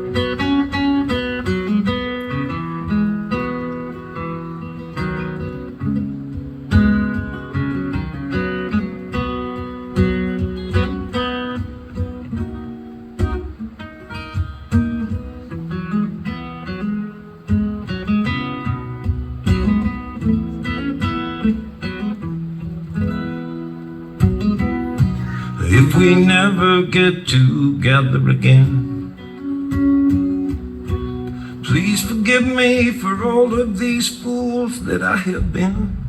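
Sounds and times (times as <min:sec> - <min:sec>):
acoustic guitar picked and strummed: 0:00.0 - 0:36.0.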